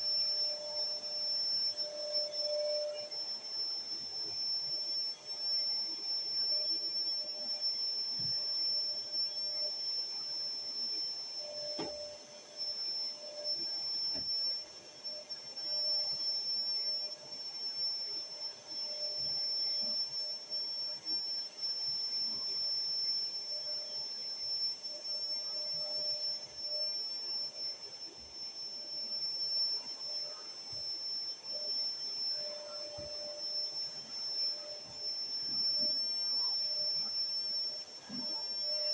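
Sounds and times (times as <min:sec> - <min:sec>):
vacuum cleaner whining: 0:00.0 - 0:38.9.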